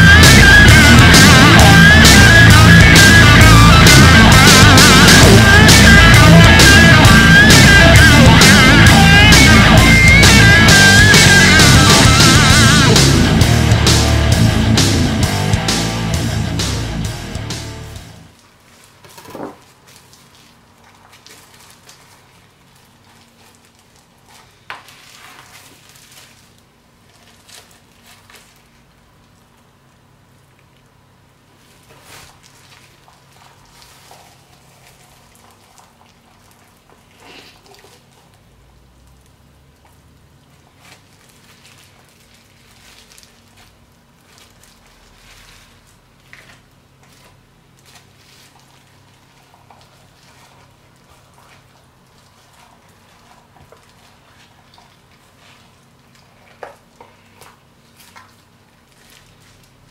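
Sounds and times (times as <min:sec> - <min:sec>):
plastic gloves rustling and crinkling: 0:00.0 - 0:59.9.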